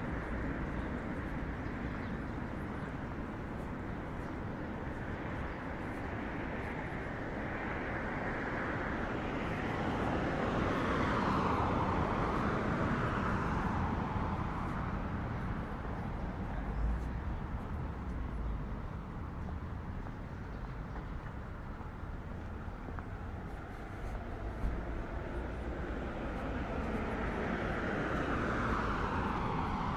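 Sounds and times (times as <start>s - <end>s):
traffic hum: 0.0s - 29.9s.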